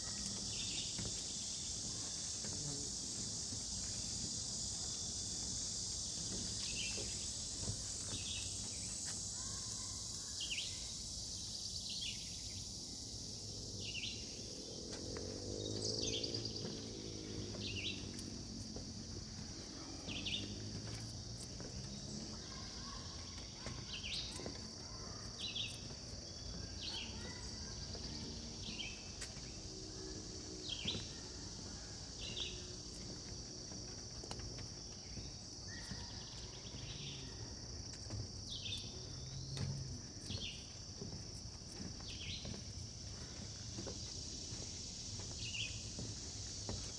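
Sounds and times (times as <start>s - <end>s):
insect chorus buzzing: 0.0s - 46.9s.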